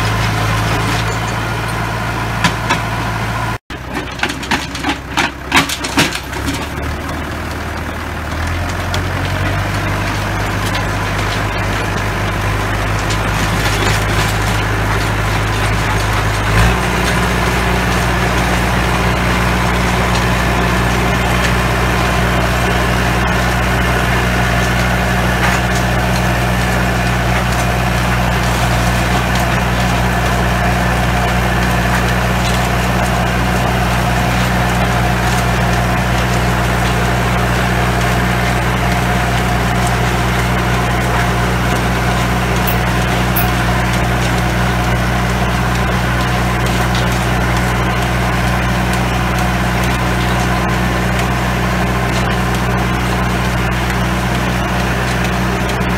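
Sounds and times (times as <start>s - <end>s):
rotary tiller churning soil: 0.0s - 55.9s
tractor diesel engine running: 0.0s - 55.9s.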